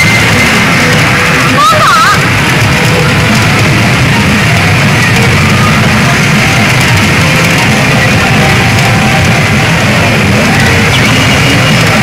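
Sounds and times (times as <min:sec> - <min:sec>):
pachinko machine music: 0:00.0 - 0:12.0.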